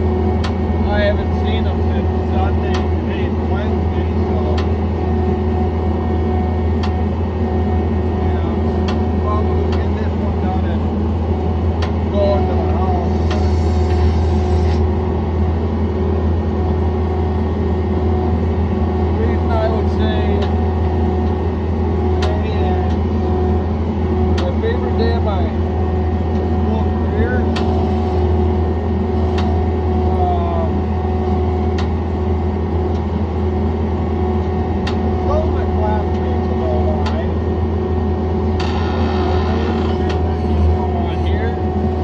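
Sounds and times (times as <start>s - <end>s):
loader engine running steadily: 0.0s - 42.0s.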